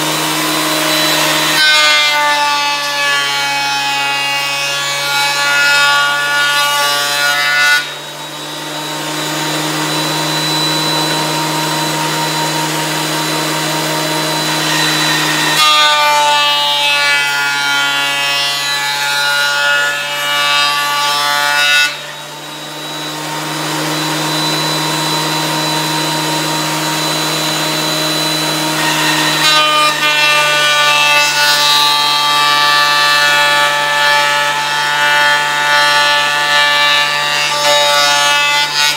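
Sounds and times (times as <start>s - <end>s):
electric planer motor whine: 0.0s - 38.9s
planer cutting wood: 0.0s - 38.9s.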